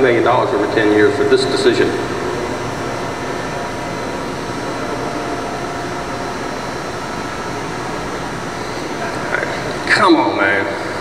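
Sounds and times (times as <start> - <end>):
faint ventilation hum: 0.0 - 11.0
room tone hiss: 0.0 - 11.0.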